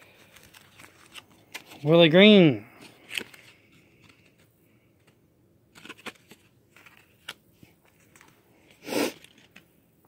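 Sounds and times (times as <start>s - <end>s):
trading cards clicking and rustling: 0.0s - 9.7s.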